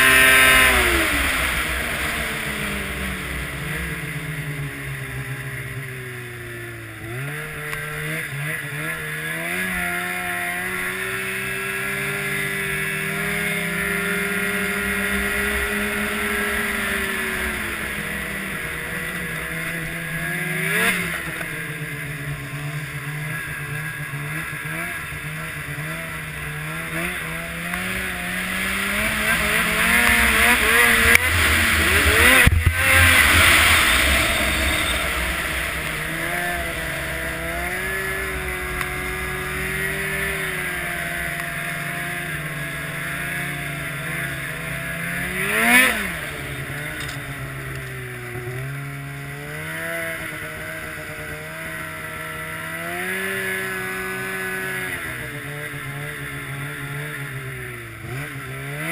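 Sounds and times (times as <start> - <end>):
rushing wind and snow: 0.0 - 58.9
snowmobile engine running: 0.0 - 58.9.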